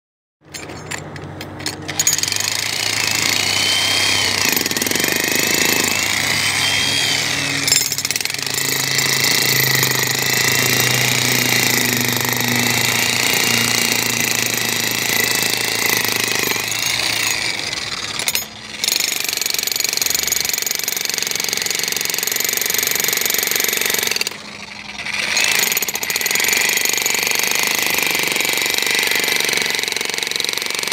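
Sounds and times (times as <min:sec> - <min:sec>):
jackhammer pounding concrete: 0:01.7 - 0:30.9.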